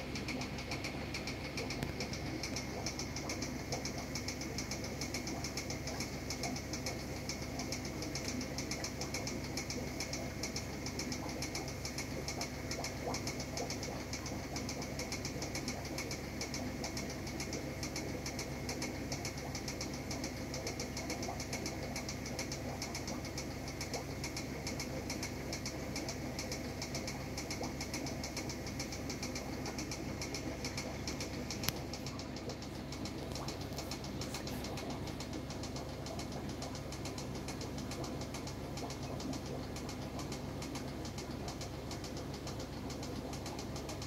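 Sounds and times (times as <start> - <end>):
aquarium pump humming and rattling: 0.0 - 44.0.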